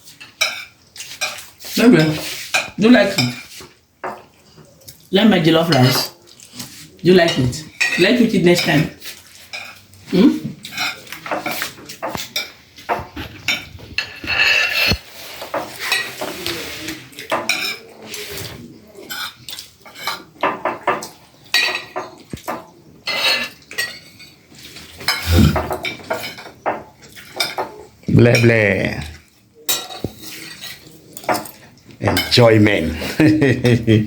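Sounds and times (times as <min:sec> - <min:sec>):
spoons scraping plates: 0:00.0 - 0:04.4, 0:05.6 - 0:22.4, 0:23.0 - 0:28.6, 0:29.7 - 0:33.8.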